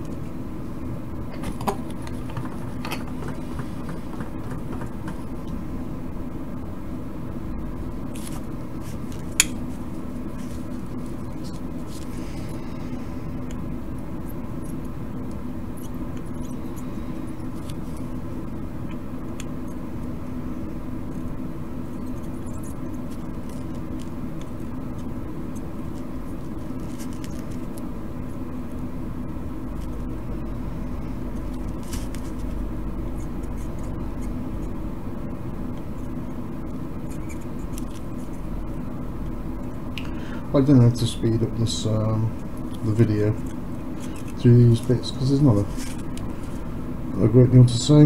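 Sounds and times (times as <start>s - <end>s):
extractor fan drone: 0.0s - 48.0s.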